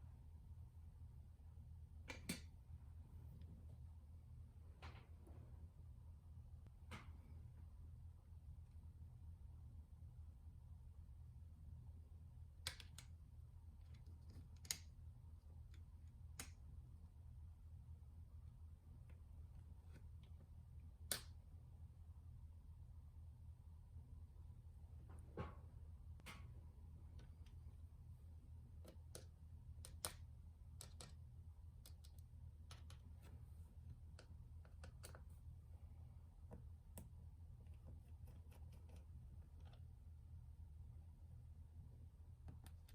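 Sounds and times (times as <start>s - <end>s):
low background hum: 0.0s - 42.9s.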